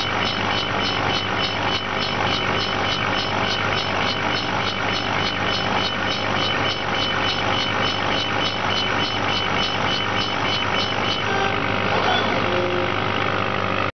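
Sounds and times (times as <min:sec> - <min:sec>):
laser engraver hum: 0:00.0 - 0:13.9
short motor tones: 0:00.0 - 0:13.9
engraving head ticking: 0:00.1 - 0:11.3.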